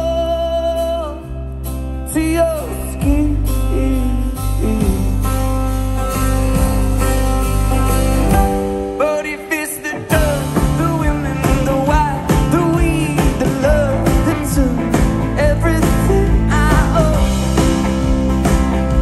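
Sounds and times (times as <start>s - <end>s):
man singing lead vocal: 0.0s - 5.7s, 8.6s - 18.4s
live folk-rock band playing: 0.0s - 19.0s.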